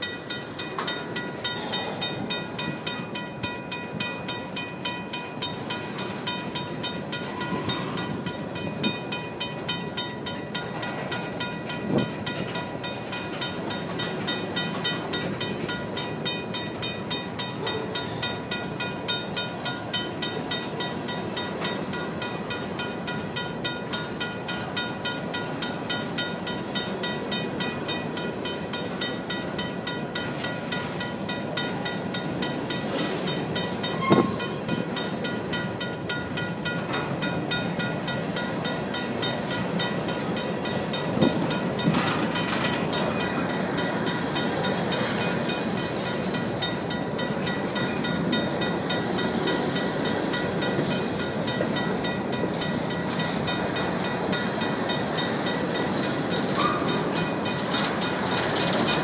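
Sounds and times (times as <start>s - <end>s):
train rumbling on rails: 0.0s - 59.0s
train wheels clicking over rail joints: 0.0s - 59.0s.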